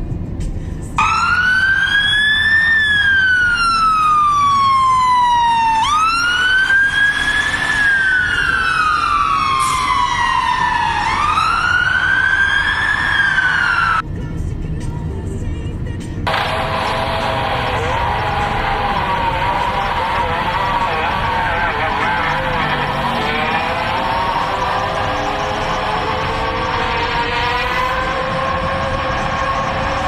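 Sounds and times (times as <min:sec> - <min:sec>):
low traffic rumble: 0:00.0 - 0:30.0
fire engine siren wailing: 0:01.0 - 0:14.0, 0:16.3 - 0:30.0.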